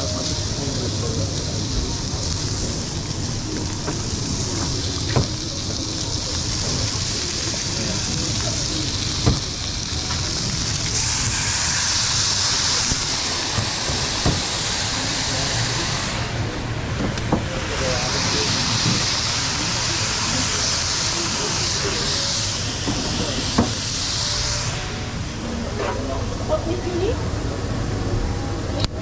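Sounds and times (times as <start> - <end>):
vegetables sizzling on griddle: 0.0 - 25.5.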